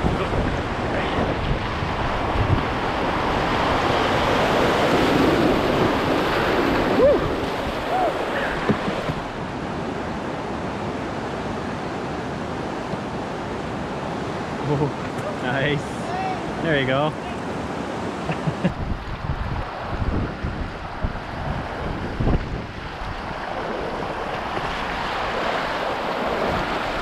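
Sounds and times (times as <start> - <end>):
wind on microphone: 0.0 - 14.6, 17.5 - 27.0
whitewater rushing and splashing: 0.0 - 27.0.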